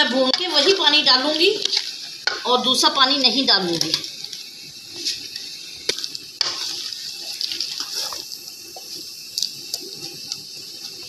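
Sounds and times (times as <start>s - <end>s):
chickpeas bubbling in pot: 0.0s - 11.0s.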